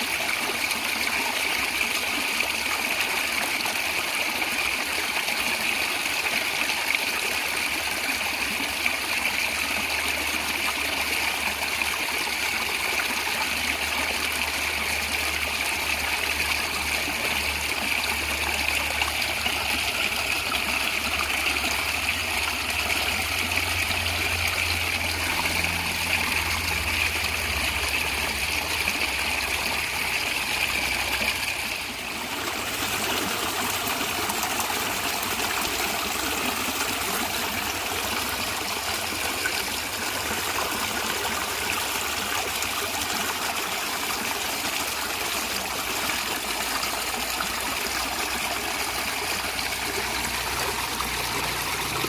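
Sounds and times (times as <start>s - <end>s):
stream water gurgling: 0.0s - 52.0s.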